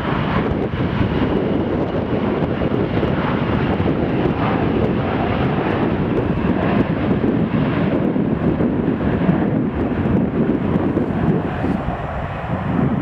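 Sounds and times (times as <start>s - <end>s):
jet engines on approach: 0.0s - 13.0s.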